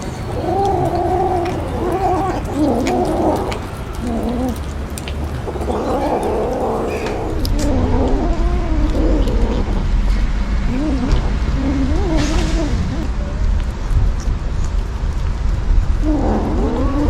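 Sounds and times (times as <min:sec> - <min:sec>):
chewing clicks: 0:00.0 - 0:17.0
kittens growling while eating: 0:00.0 - 0:17.0.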